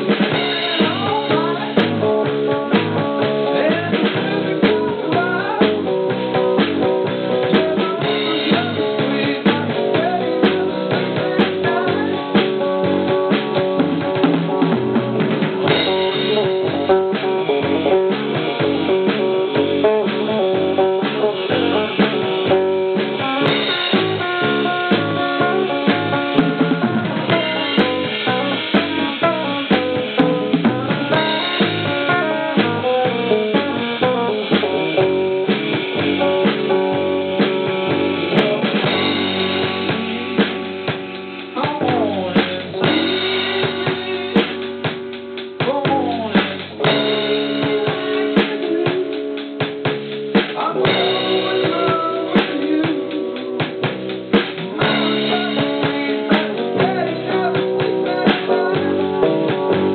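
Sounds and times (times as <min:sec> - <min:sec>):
drum kit: 0:00.0 - 0:59.9
rock band playing: 0:00.0 - 0:59.9
strummed guitar chords: 0:00.0 - 0:59.9.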